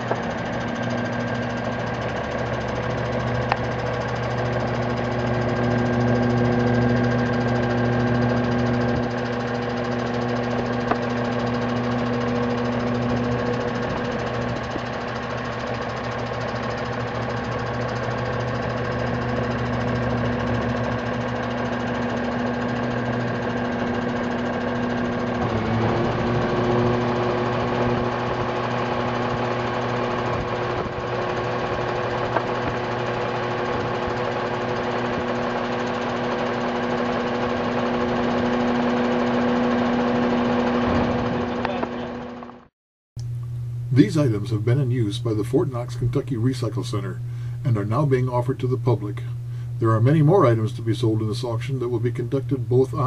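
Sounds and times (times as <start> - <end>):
diesel truck engine knocking: 0.0 - 42.6.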